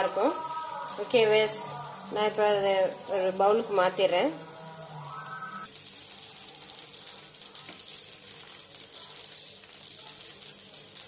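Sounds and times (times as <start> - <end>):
pot simmering with faint sizzle: 0.0 - 11.0.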